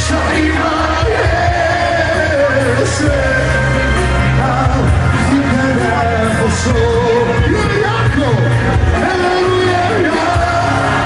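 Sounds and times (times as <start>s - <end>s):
electronic keyboard with heavy bass: 0.0s - 11.0s
man singing into a microphone: 0.0s - 11.0s.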